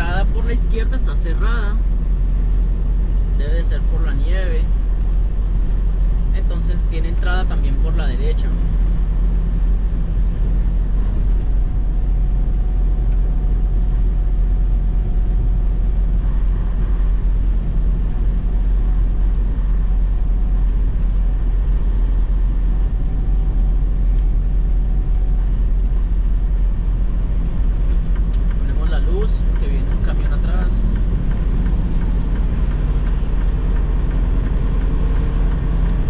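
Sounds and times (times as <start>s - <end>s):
truck engine and tyre drone: 0.0s - 36.0s.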